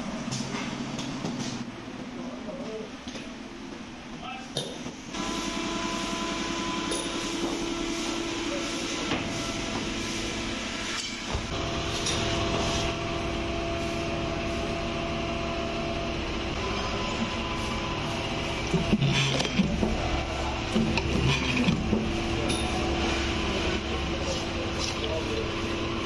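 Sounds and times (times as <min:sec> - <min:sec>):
workshop machinery whining and rattling: 0:03.2 - 0:26.0.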